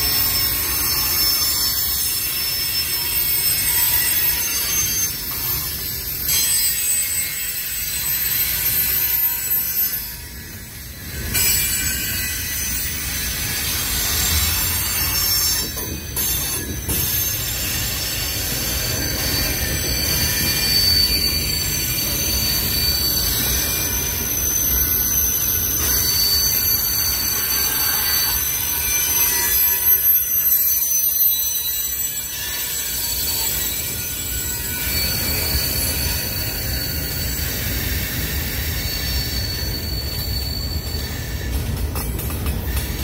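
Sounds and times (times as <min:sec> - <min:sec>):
high-pitched wheel squeal: 0:00.0 - 0:42.0
freight train wheels rumbling: 0:00.0 - 0:43.0.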